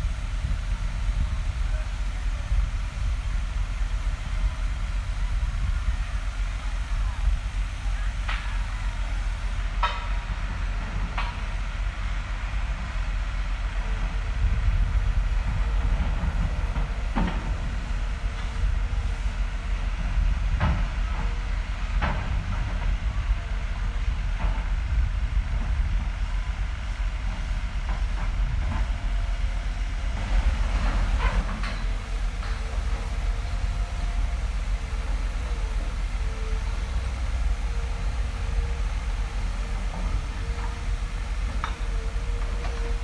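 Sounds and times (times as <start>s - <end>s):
heavy machinery rumbling: 0.0s - 43.0s.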